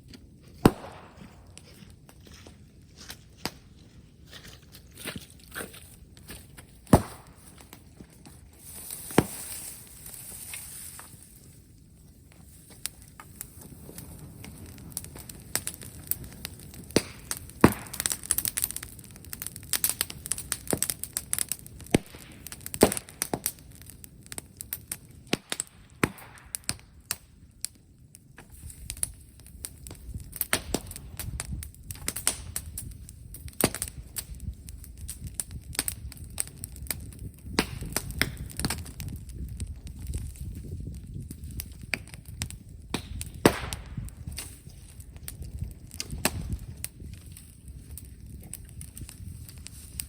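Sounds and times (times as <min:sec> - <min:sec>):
brushwood fire crackling: 0:00.0 - 0:50.0.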